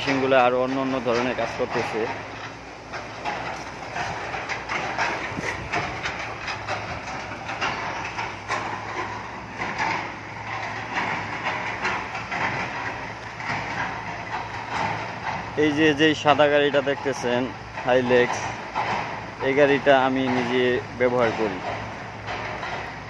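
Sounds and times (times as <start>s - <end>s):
excavator engine hum: 0.0s - 23.0s
metallic clanking and rattling: 0.0s - 23.0s.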